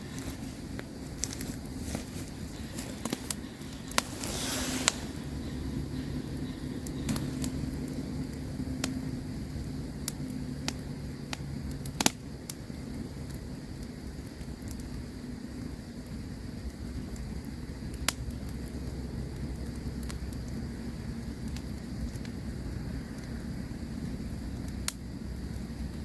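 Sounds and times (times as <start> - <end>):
campfire crackling and popping: 0.0 - 26.0
low rumble of burning: 0.0 - 26.0.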